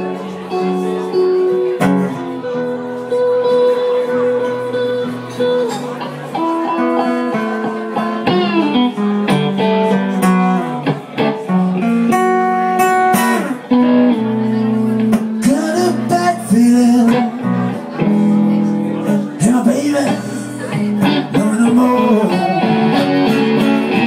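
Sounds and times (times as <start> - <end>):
acoustic guitar accompaniment: 0.0 - 24.0
electric guitar lead lines: 0.0 - 24.0.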